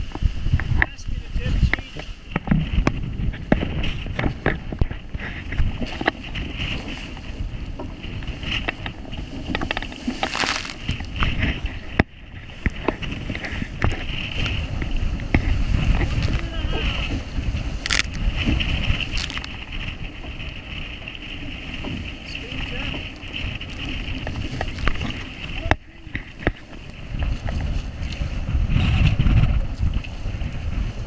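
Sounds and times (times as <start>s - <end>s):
water rushing along hull: 0.0s - 31.0s
wind buffeting microphone: 0.0s - 31.0s.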